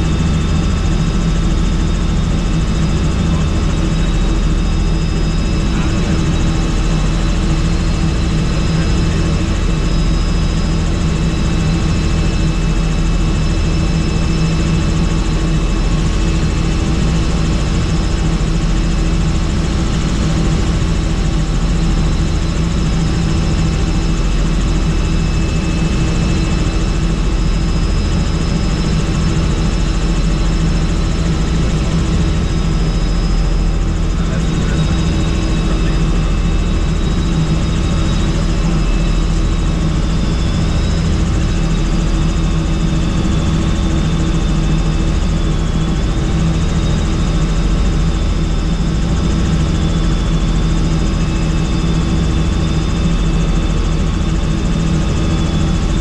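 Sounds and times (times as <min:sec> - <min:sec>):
helicopter turbine and rotor drone: 0:00.0 - 0:56.0.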